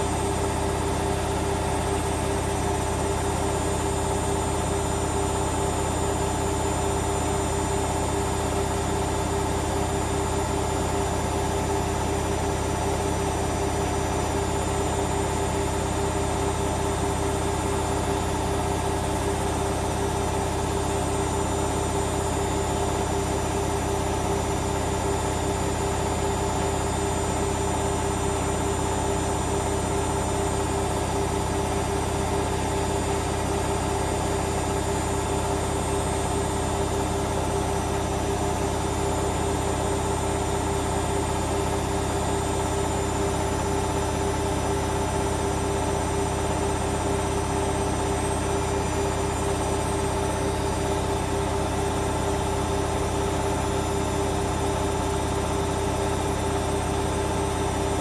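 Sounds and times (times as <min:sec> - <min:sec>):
washing machine motor humming: 0:00.0 - 0:58.0.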